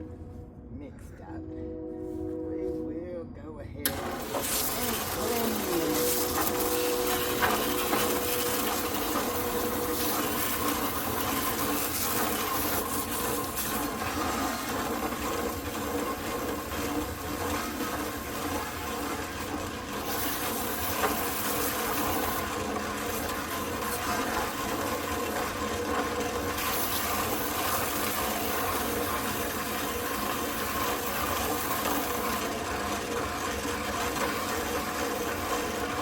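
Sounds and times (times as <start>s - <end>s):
steady hum: 0.0s - 29.4s.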